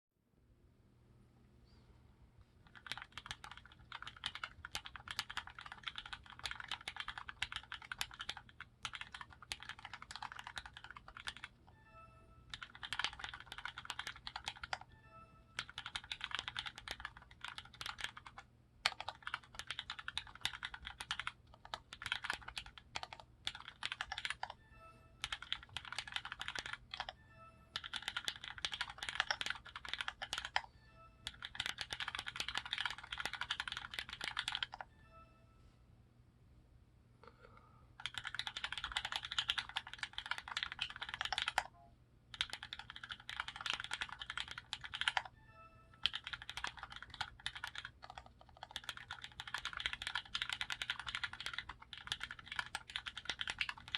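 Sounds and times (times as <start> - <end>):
mechanical keyboard typing: 2.7 - 11.6, 12.5 - 14.9, 15.6 - 24.6, 25.2 - 34.9, 38.0 - 41.7, 42.3 - 45.3, 46.0 - 53.9.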